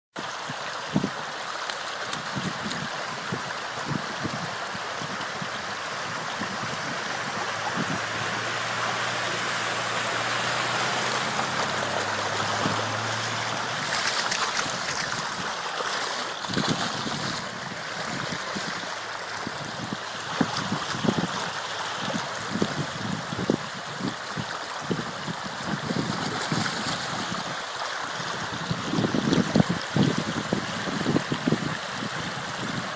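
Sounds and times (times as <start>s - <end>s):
floodwater rushing across road: 0.2s - 32.9s
fish splashing in water: 0.3s - 23.0s, 25.8s - 30.1s.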